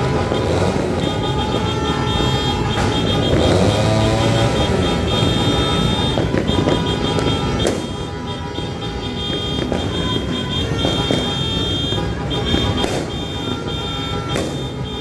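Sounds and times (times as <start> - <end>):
high-pitched horn-like tone: 0.0 - 15.0
motorbike and car engines: 0.0 - 15.0.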